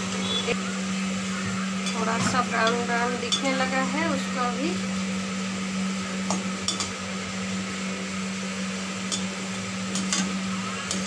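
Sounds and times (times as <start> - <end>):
potato deep-frying in oil: 0.0 - 11.0.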